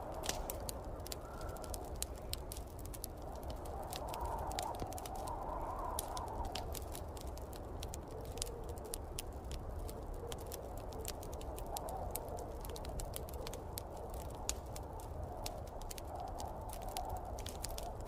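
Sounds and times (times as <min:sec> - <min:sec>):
snowstorm wind rumble: 0:00.0 - 0:18.0
wood fire crackling: 0:00.0 - 0:18.0.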